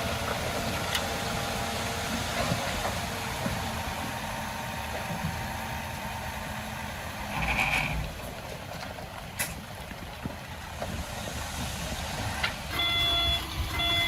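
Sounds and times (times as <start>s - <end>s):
diesel machine running: 0.0s - 14.0s.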